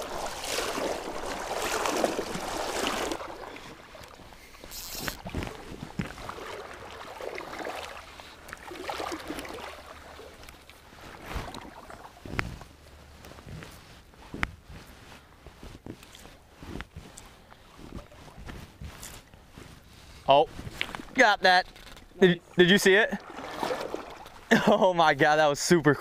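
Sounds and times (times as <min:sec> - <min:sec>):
water swishing around wading legs: 0:00.0 - 0:25.2.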